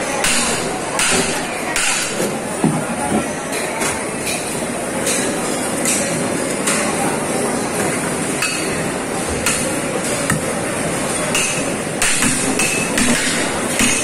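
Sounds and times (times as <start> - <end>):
market din: 0.0 - 14.0.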